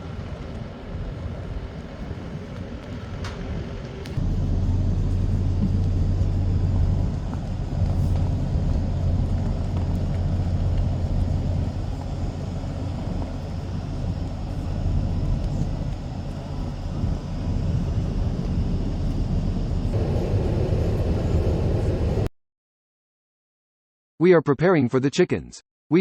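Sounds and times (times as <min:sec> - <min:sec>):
vehicle engine rumbling: 0:00.0 - 0:22.3.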